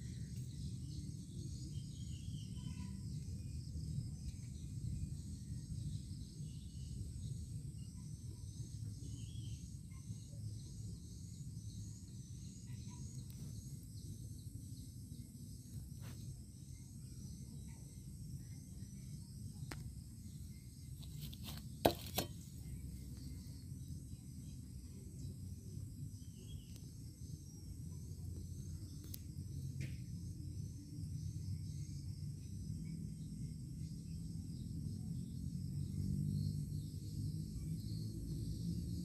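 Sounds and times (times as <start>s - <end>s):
insects chirring: 0.0s - 39.0s.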